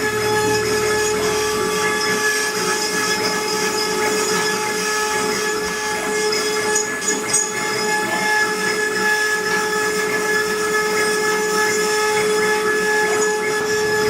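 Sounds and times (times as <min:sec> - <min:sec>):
wood router whining: 0:00.0 - 0:14.0.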